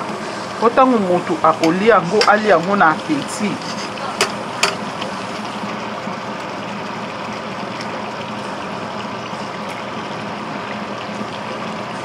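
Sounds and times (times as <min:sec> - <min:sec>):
pot bubbling and sizzling: 0:00.0 - 0:12.0.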